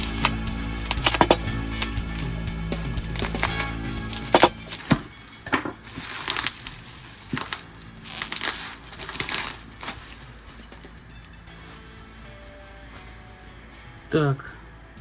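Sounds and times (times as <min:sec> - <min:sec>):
packaging crinkling and rustling: 0:00.0 - 0:13.3.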